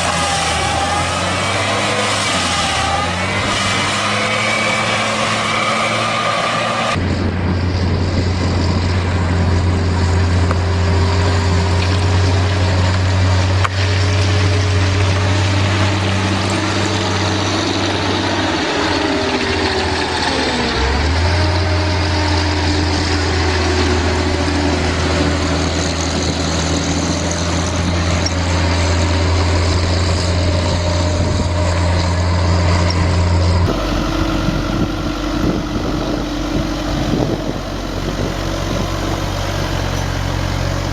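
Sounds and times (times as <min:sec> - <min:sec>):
heavy machine engine humming: 0:00.0 - 0:40.9.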